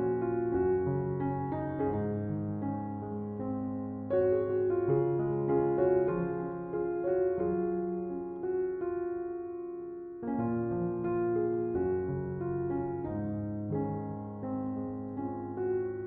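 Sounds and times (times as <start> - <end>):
soft piano piece: 0.0 - 16.0.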